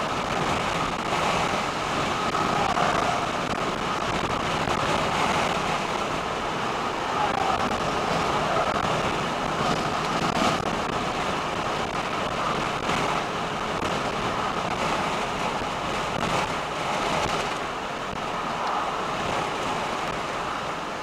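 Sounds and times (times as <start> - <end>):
road and wind noise in car: 0.0 - 21.0.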